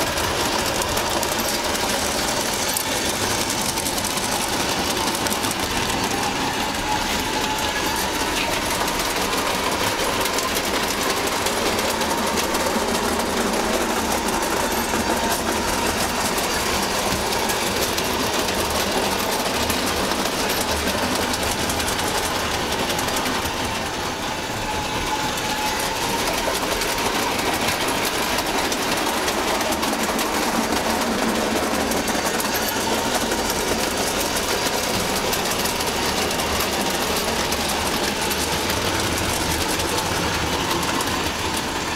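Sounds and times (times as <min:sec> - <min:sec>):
wheels clattering over rails: 0:00.0 - 0:41.9.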